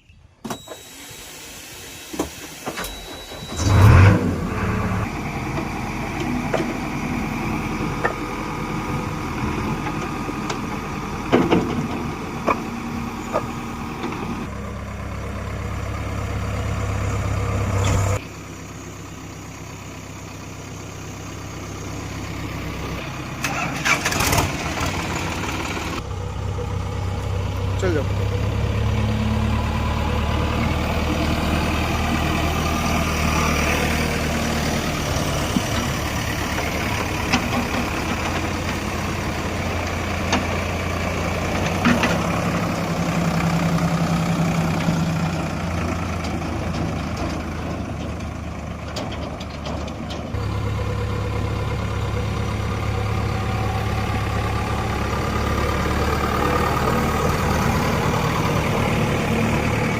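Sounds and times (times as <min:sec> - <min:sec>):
diesel tractor engine running: 0:00.4 - 0:59.9.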